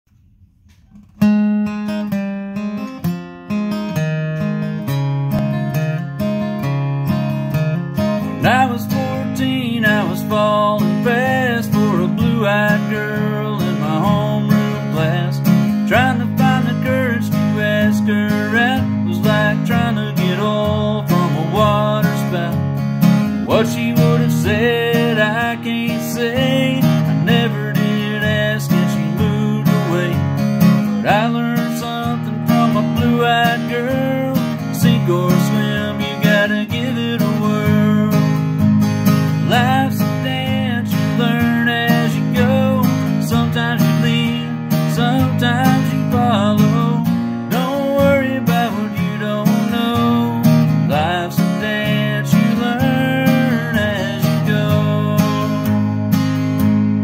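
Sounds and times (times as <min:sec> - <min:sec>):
acoustic guitar strumming: 0:00.1 - 0:57.0
man singing country song: 0:05.4 - 0:56.8.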